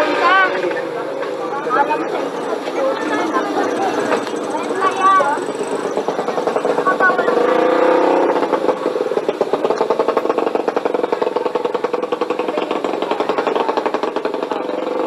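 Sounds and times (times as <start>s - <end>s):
street voices: 0.0s - 15.0s
motorcycle engine idling: 1.0s - 15.0s.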